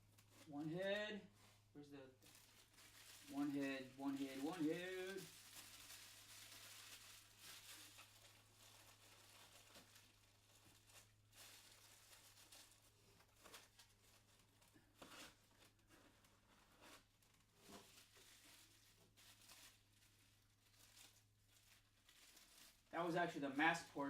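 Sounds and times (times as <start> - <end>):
packaging rustling and tearing: 1.4 - 22.9.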